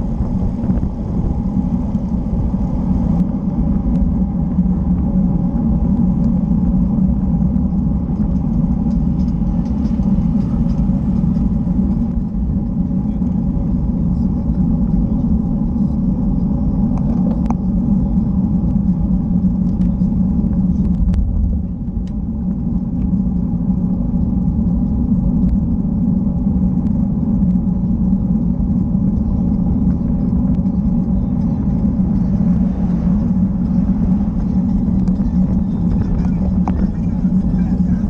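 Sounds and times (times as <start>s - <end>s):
wind and road noise rumble: 0.0s - 38.0s.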